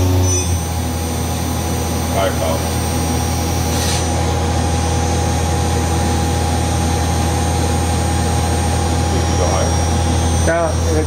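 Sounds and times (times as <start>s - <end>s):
machine spindle whining: 0.0s - 11.0s.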